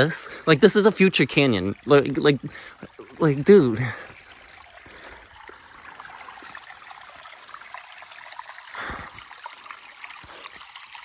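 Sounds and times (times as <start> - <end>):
water trickling over rock: 0.0 - 11.0.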